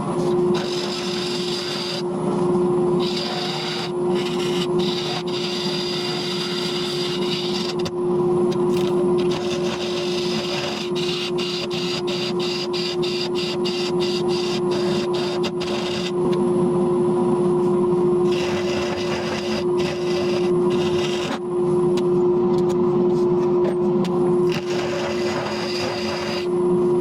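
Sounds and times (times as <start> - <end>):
wood lathe motor hum: 0.0 - 16.4, 18.1 - 21.4, 24.4 - 26.9.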